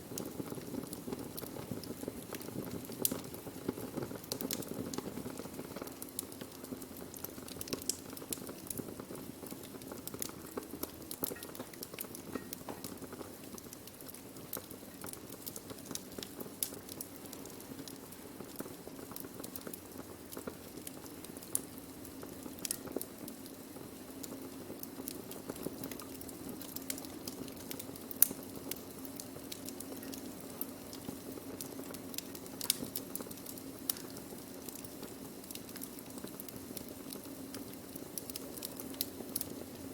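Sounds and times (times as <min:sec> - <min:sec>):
burning wood crackling: 0:00.0 - 0:39.9
fire pops and snaps: 0:00.0 - 0:39.9.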